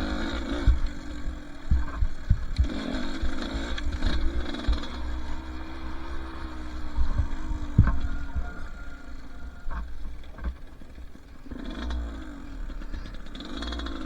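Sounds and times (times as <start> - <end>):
two-stroke dirt bike engine: 0.0 - 14.0.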